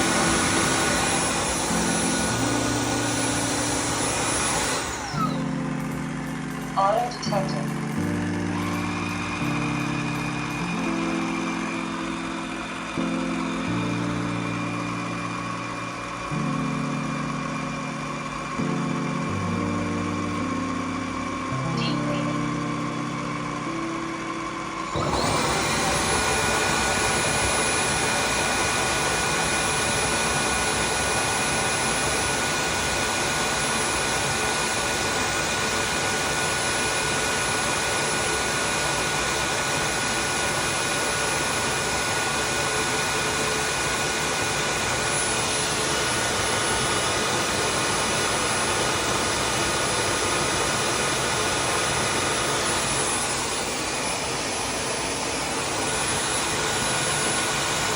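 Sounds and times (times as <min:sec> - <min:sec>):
vacuum motor whining: 0:00.0 - 0:57.9.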